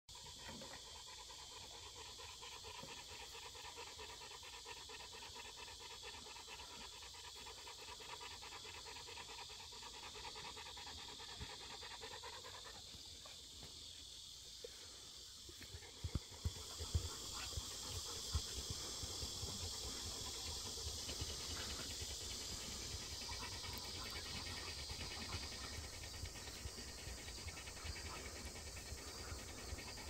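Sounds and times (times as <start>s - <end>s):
dog panting: 0.1s - 30.0s
insects chirring: 0.1s - 30.0s.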